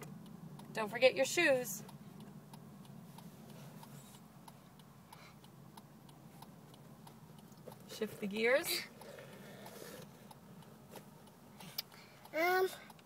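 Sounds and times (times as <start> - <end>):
low steady hum: 0.0 - 13.0
turn-signal flasher ticking: 0.0 - 13.0.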